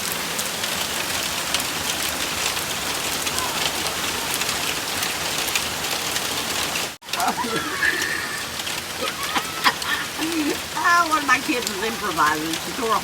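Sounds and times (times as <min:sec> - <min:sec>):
heavy rain on roof: 0:00.0 - 0:13.0.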